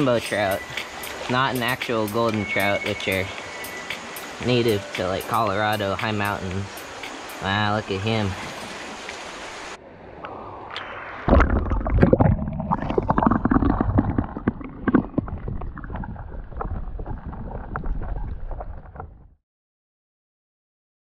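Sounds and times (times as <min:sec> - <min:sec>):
muffled underwater stream water: 0:00.0 - 0:19.3.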